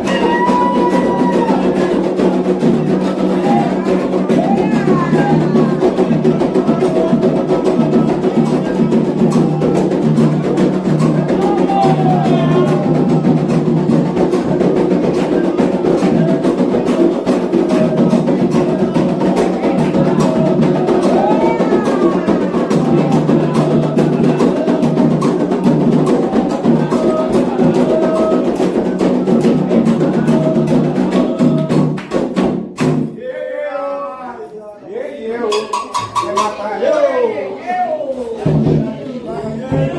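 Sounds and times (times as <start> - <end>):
hand drums playing rhythm: 0.0 - 33.2, 35.5 - 36.8, 38.4 - 39.9
voices singing a chant: 0.0 - 39.9.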